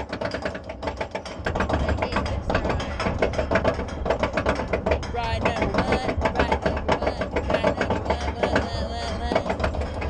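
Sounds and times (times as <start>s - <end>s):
roller coaster ratchet clacking: 0.0s - 10.0s.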